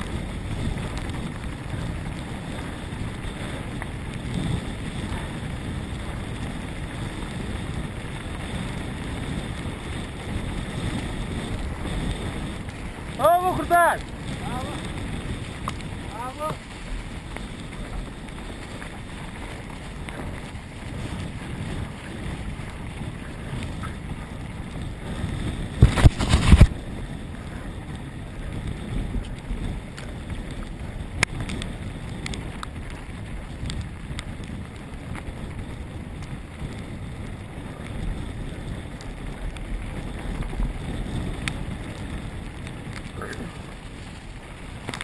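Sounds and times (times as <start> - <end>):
wind rumbling on microphone: 0.0 - 45.0.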